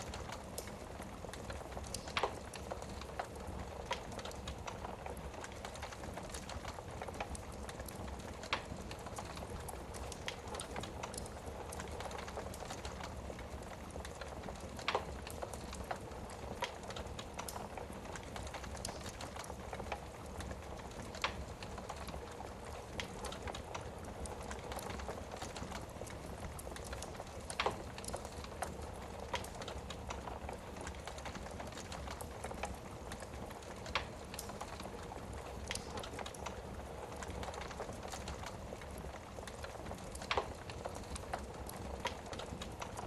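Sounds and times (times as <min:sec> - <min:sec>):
burning logs popping: 0:00.0 - 0:43.0
wood fire crackling: 0:00.0 - 0:43.0.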